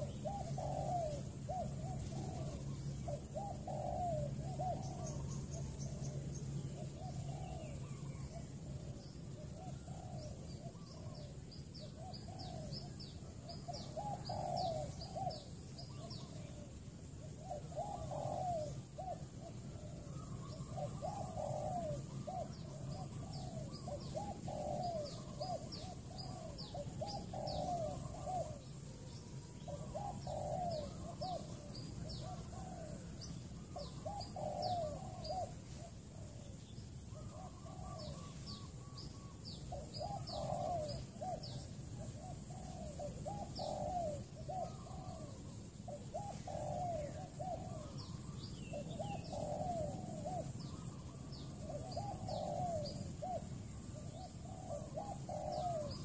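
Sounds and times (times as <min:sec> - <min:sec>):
dove cooing: 0:00.0 - 0:56.0
small bird chirping: 0:00.0 - 0:56.0.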